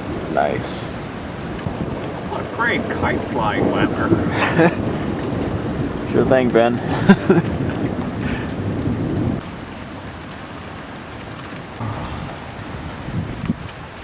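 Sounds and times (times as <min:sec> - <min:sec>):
low rumble of thunder: 0:00.0 - 0:14.0
steady rain: 0:00.0 - 0:14.0.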